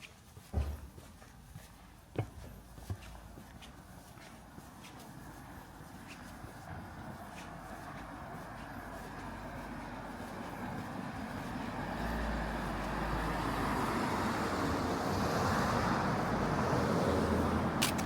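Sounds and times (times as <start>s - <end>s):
vehicle engine and tyre noise: 0.0s - 18.0s.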